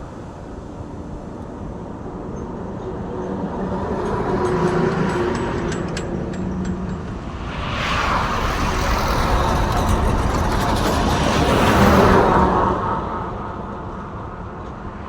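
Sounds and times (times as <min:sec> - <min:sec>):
truck engine and tyre noise: 0:00.0 - 0:15.0.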